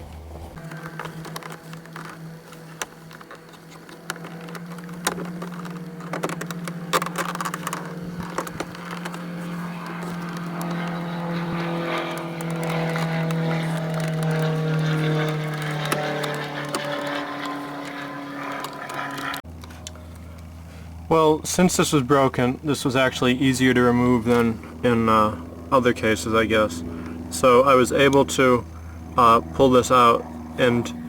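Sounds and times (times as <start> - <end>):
passing engine: 0.0 - 31.0
steady low hum: 0.0 - 31.0.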